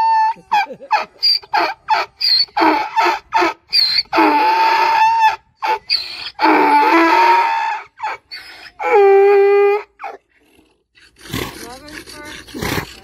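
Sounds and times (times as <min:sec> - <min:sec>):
donkey braying: 0:00.0 - 0:13.0.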